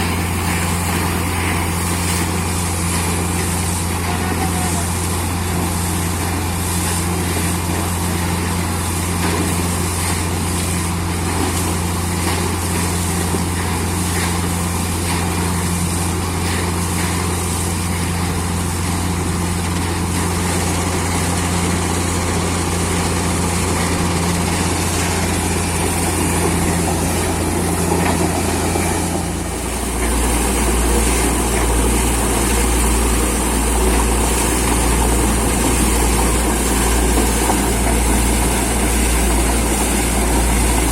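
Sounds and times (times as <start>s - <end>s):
drilling rig engine humming: 0.0s - 40.9s.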